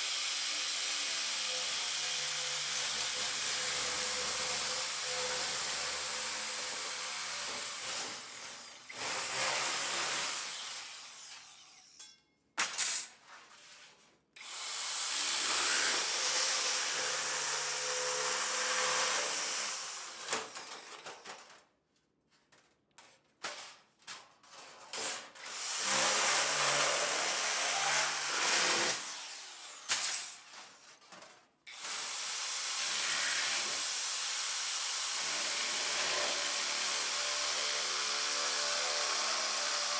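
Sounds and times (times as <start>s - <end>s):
power tool on sheet metal: 0.0s - 12.0s, 14.4s - 20.9s, 25.0s - 30.7s, 31.7s - 39.9s.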